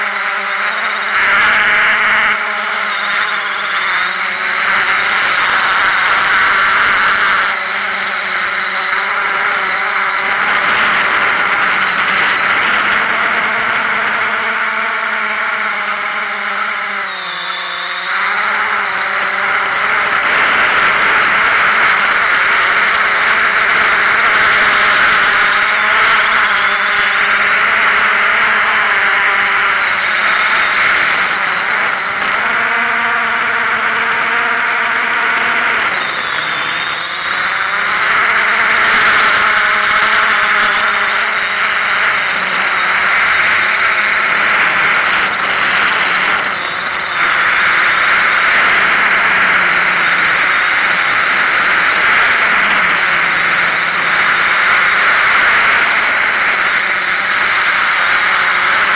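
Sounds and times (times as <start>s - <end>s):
drone motors and propellers whirring: 0.0s - 58.9s.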